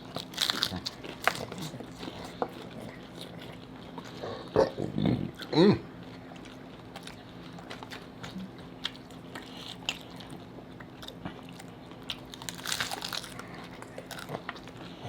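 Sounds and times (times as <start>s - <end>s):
crunching hard-shell tacos: 0.0s - 15.0s.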